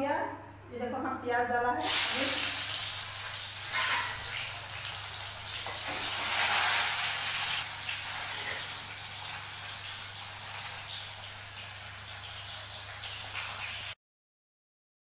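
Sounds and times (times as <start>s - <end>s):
onion sizzling in hot oil: 1.8s - 14.0s.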